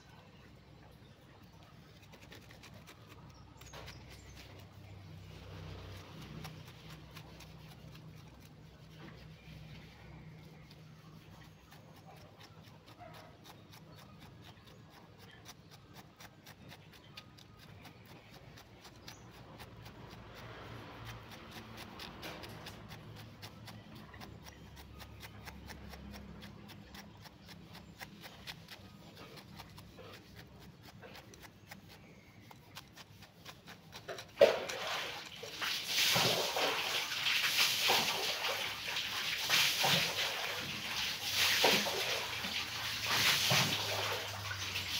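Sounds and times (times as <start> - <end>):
stick scratching in soil: 0.0 - 44.9.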